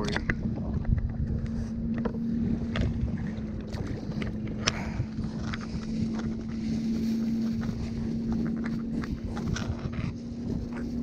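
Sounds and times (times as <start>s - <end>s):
low steady hum: 0.0s - 11.0s
water slapping kayak: 0.0s - 11.0s
wind on microphone: 0.0s - 11.0s.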